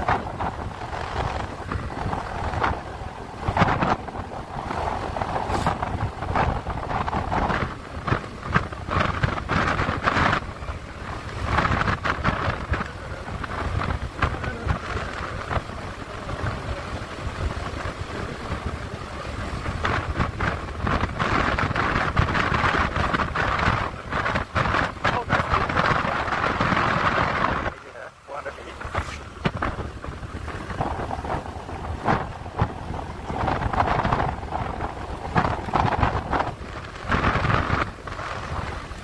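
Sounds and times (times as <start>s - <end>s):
vehicle rumble on road: 0.0s - 39.0s
wind buffeting microphone: 0.0s - 39.0s.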